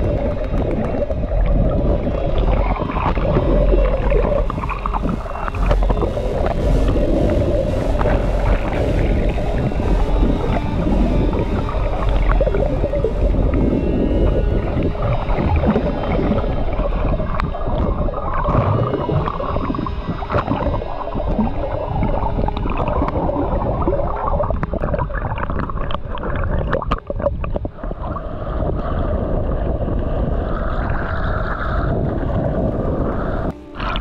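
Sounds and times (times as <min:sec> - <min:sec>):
underwater rushing noise: 0:00.0 - 0:34.0.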